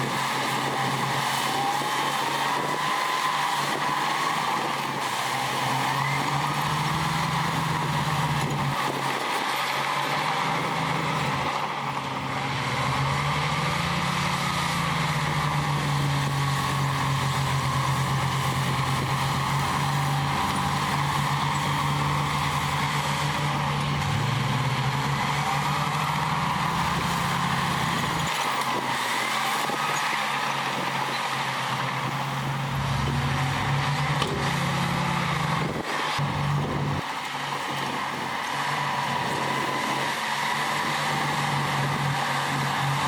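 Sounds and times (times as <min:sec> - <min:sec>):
heavy diesel engine under load: 0:00.0 - 0:43.0.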